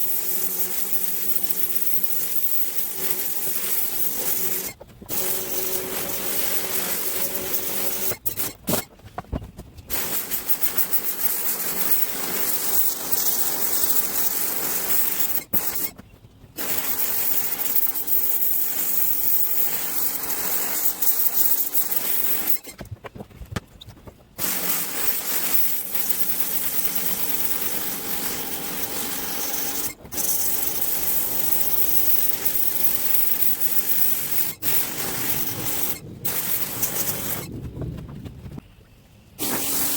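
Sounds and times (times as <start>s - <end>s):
pressure washer spraying metal: 0.0s - 8.9s, 9.9s - 15.9s, 16.6s - 22.7s, 24.4s - 37.5s, 39.4s - 39.9s.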